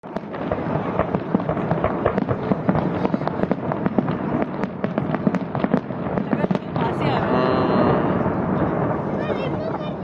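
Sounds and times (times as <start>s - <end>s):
fireworks popping and cracking: 0.0s - 10.0s
continuous rumble: 0.1s - 10.0s.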